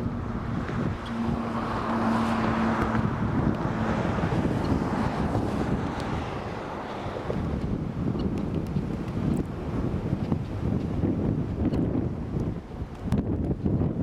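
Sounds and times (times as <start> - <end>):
propeller engine humming: 0.0 - 14.0
wind rumble on microphone: 0.0 - 14.0.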